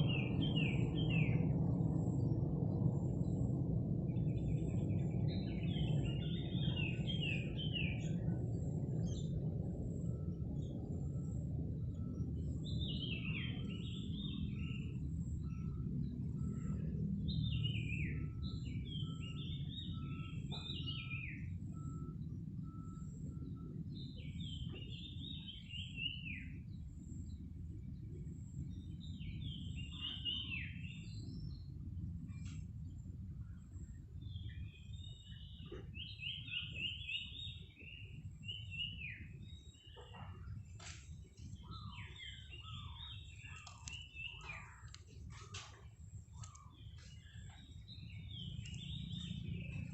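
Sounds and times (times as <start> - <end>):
bird chirping: 0.0 - 2.3, 4.1 - 49.9
low background rumble: 0.0 - 49.9.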